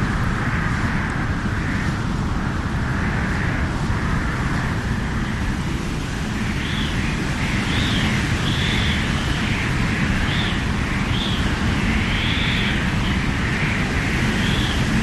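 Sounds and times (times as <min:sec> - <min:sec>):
wind howling whistles: 0:00.0 - 0:15.0.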